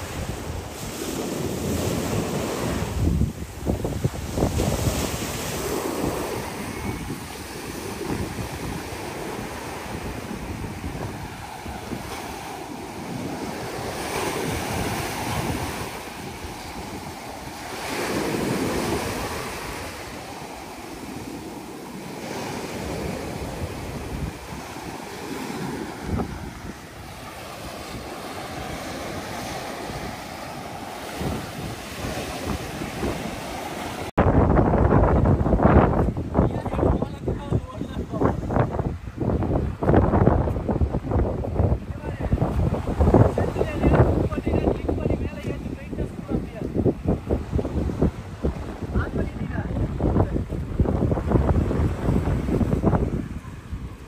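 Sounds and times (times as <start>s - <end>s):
surf breaking on shore: 0.0s - 54.0s
wind buffeting microphone: 0.0s - 54.0s.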